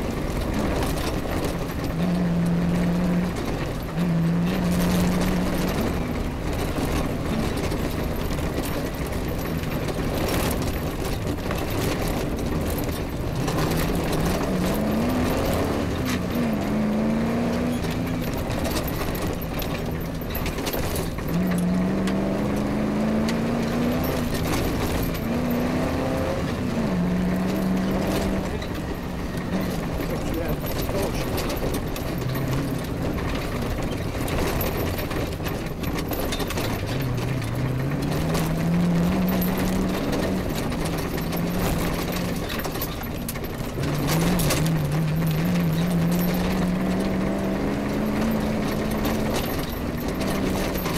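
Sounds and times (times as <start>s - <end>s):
car rattling over rough ground: 0.0s - 50.9s
rally car engine revving: 0.0s - 50.9s.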